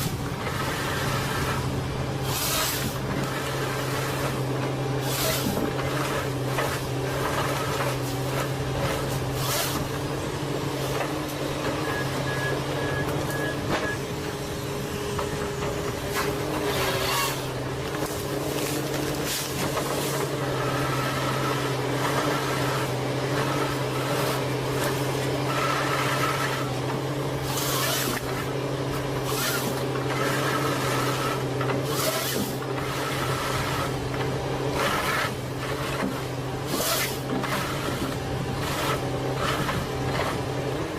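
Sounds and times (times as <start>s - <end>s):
machinery humming: 0.0s - 40.9s.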